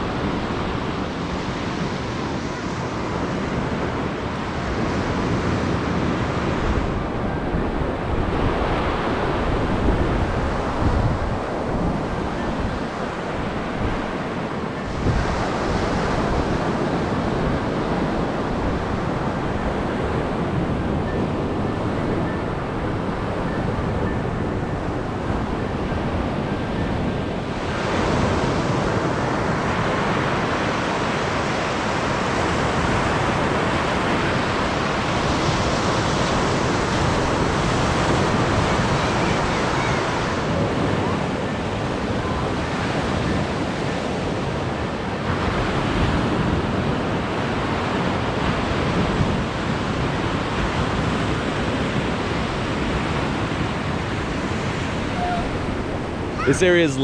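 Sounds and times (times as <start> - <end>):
waves washing onto beach: 0.0 - 57.0
wind buffeting microphone: 0.0 - 57.0.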